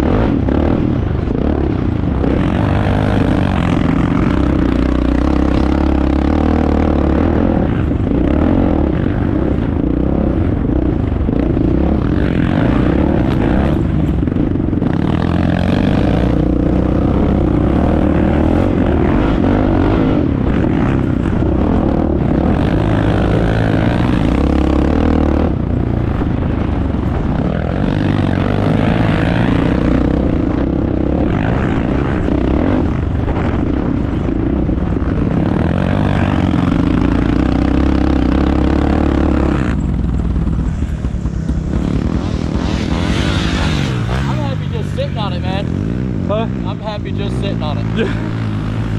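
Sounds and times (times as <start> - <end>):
road noise: 0.0 - 48.9
vehicle engine running: 0.0 - 48.9
wind noise: 0.0 - 48.9.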